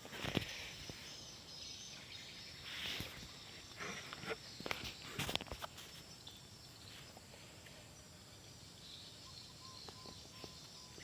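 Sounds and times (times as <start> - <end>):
insects trilling: 0.0 - 11.0
faint chirps: 0.2 - 11.0.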